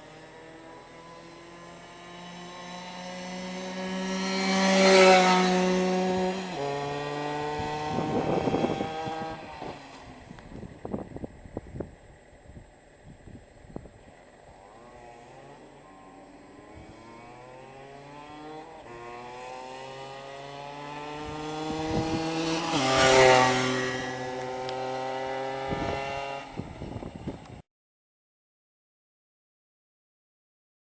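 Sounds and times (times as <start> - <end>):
motorbike engine accelerating: 0.0 - 12.6, 13.3 - 27.4.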